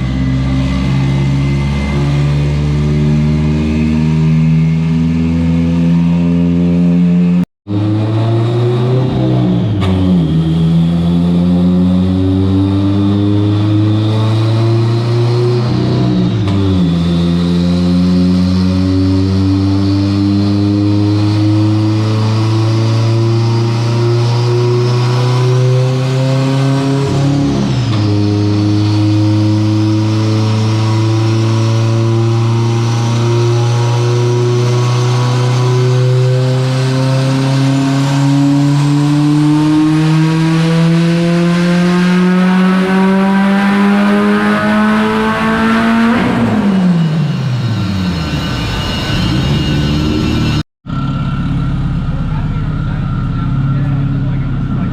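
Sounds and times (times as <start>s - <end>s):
car engine running hard: 0.0s - 54.9s.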